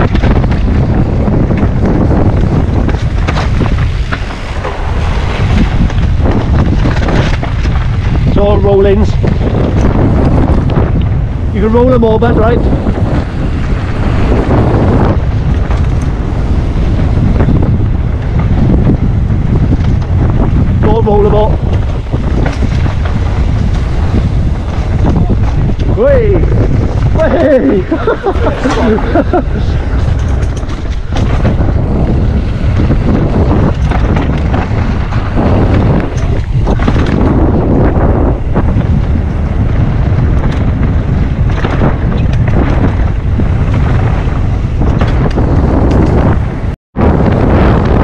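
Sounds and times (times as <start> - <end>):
bike clattering and knocking: 0.0 - 11.1, 12.8 - 26.0, 26.6 - 46.4
tyres rumbling on dirt: 0.0 - 48.0
wind buffeting microphone: 0.0 - 48.0.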